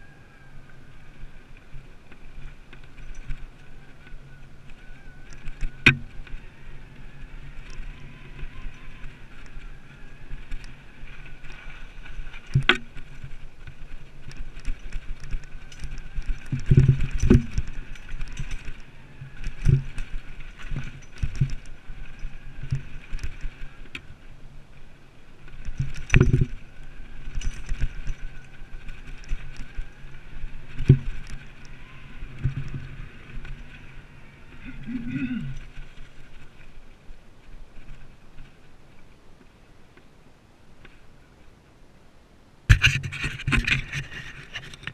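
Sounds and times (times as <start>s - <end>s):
bike knocking and rattling over bumps: 0.0s - 40.1s, 42.7s - 44.9s
bike tyres rumbling on dirt: 0.0s - 41.6s.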